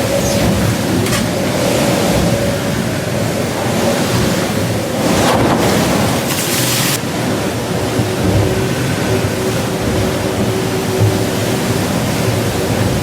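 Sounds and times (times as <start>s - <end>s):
rushing water: 0.0s - 13.0s
wind buffeting microphone: 0.0s - 13.0s.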